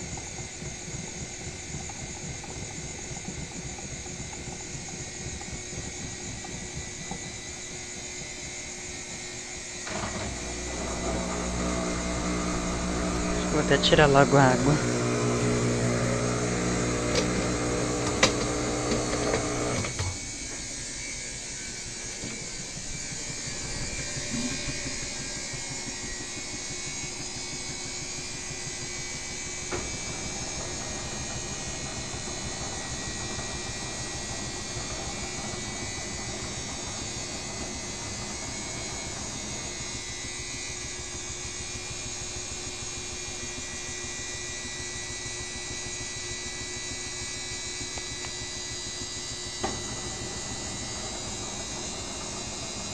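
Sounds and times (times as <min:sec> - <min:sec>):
quieter steady whirr: 0:00.0 - 0:52.9
washing machine electric hum: 0:00.0 - 0:52.9.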